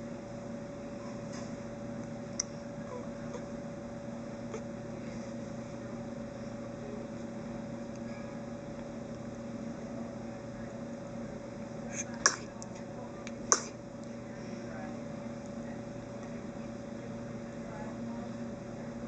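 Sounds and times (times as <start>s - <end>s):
steady appliance hum: 0.0s - 19.0s.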